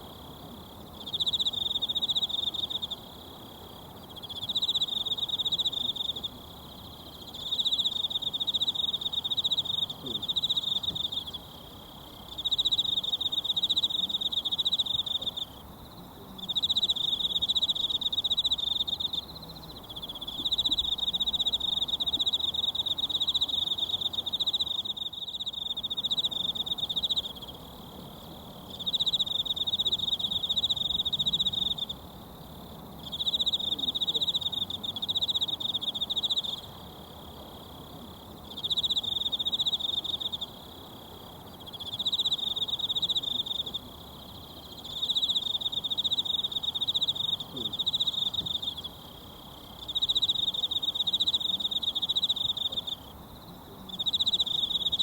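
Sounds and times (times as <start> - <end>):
high pulsed insect trill: 0.0 - 55.0.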